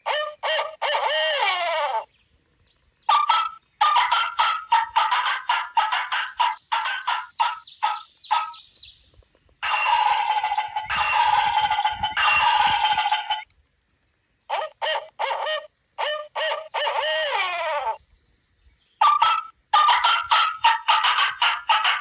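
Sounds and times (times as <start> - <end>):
turkey gobbling: 0.0 - 2.1, 3.1 - 8.6, 9.6 - 13.5, 14.5 - 18.0, 19.0 - 22.0.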